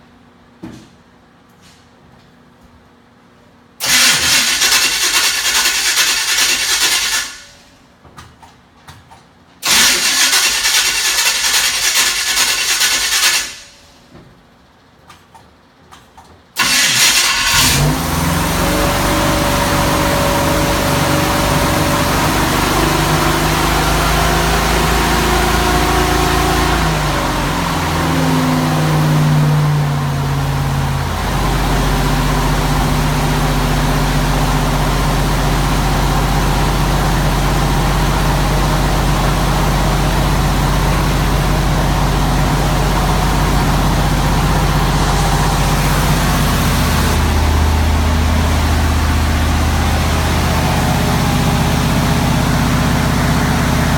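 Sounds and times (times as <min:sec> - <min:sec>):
truck engine starting and idling: 0:03.8 - 0:07.8, 0:09.6 - 0:14.1, 0:16.6 - 0:53.9.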